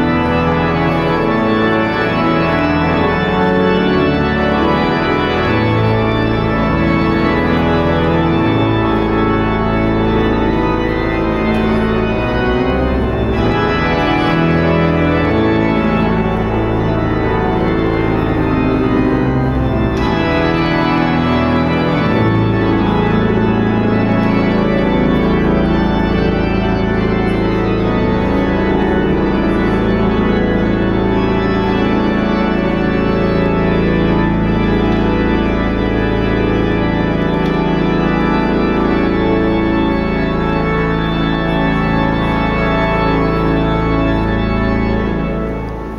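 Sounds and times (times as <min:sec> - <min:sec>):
pipe organ playing chords: 0:00.0 - 0:45.9.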